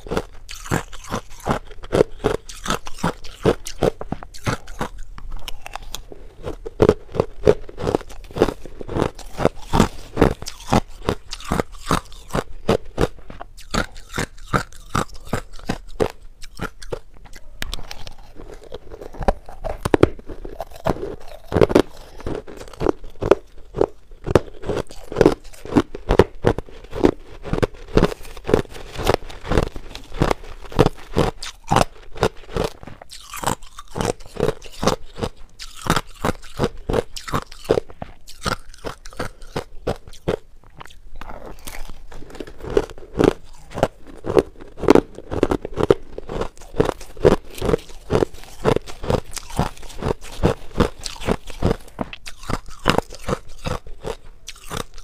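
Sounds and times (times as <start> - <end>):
ice being chewed: 0.0 - 55.0.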